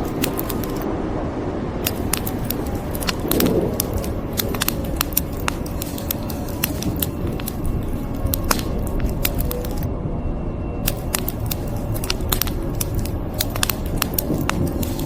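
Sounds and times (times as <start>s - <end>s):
wood fire crackling and popping: 0.0s - 0.8s, 1.8s - 9.9s, 10.8s - 15.0s
low fire rumble: 0.0s - 15.0s.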